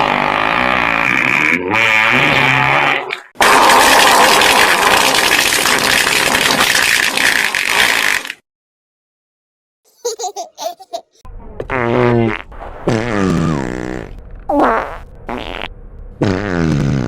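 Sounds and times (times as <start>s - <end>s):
buzzing pitched fart: 0.0s - 8.4s, 11.6s - 17.0s
long rough fart: 0.0s - 8.4s, 11.7s - 17.0s.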